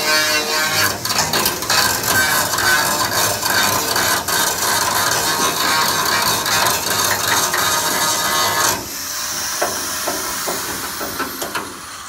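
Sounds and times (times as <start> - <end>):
welding torch hissing: 0.5 - 12.0.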